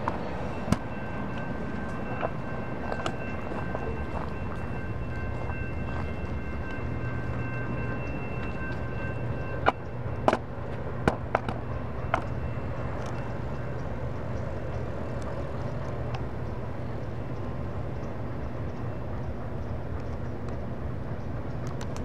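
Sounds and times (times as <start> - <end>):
freight train rumbling: 0.0 - 22.0
street traffic: 0.0 - 22.0.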